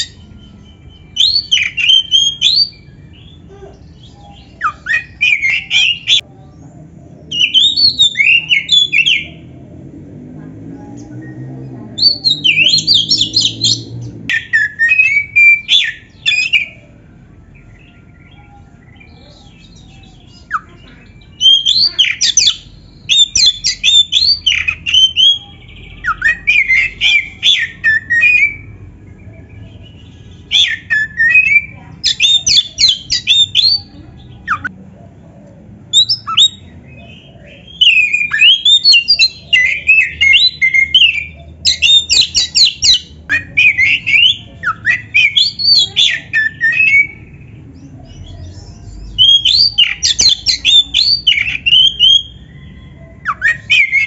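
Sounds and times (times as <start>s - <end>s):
songbird whistling and trilling: 0.0s - 6.3s, 7.3s - 9.4s, 11.0s - 16.9s, 17.6s - 34.7s, 35.9s - 54.0s.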